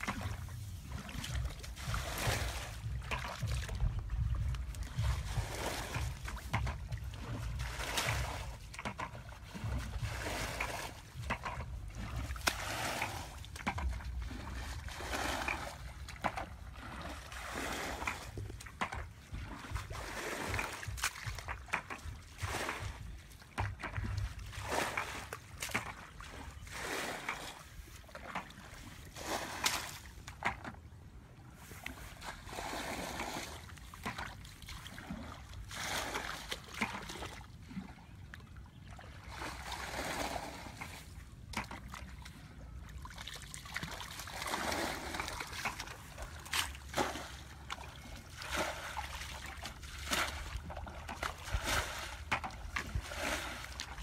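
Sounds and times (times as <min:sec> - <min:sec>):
bucket scooping muddy water: 0:00.0 - 0:54.0
water splashes: 0:00.0 - 0:54.0.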